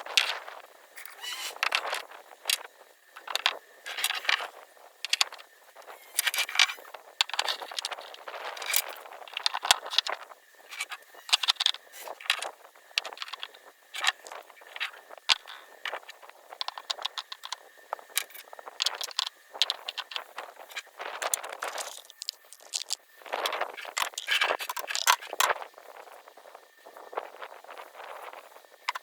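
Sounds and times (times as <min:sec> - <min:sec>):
gritty scraping and rattling: 0:00.0 - 0:25.6.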